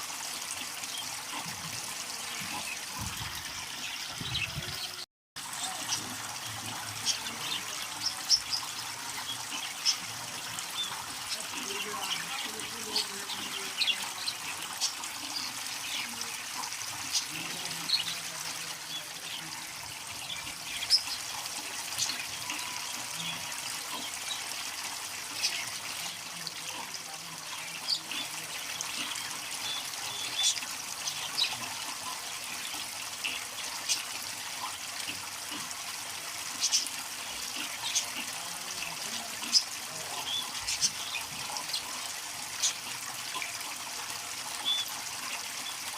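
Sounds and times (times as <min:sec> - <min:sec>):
water trickling: 0:00.0 - 0:45.9
high ticks and splashes: 0:05.4 - 0:45.9.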